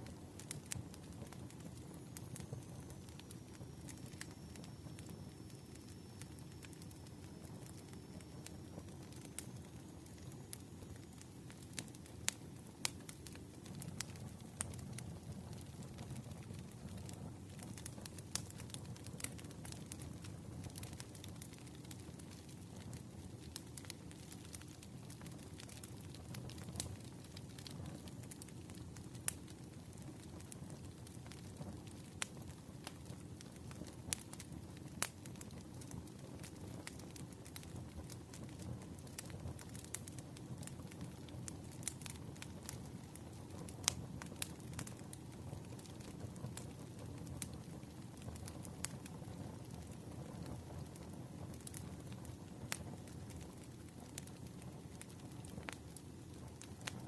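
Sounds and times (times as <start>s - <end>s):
fire crackles and pops: 0.0s - 57.0s
low rumble of flames: 0.0s - 57.0s.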